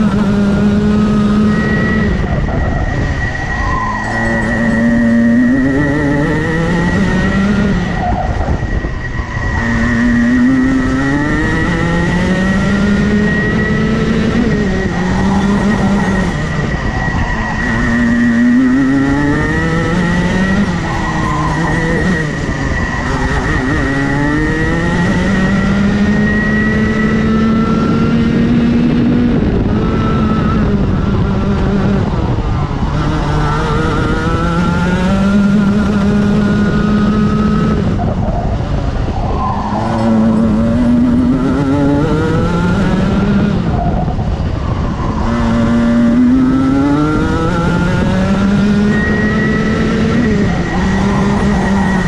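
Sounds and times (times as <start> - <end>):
kart engine revving: 0.0 - 52.0
steady high whine: 0.0 - 52.0
wind rumbling on microphone: 0.0 - 52.0.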